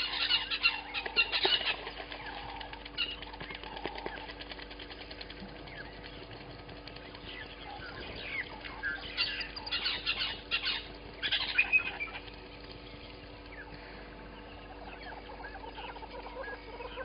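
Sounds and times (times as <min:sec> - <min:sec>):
birds chattering and chirping: 0:00.0 - 0:17.0.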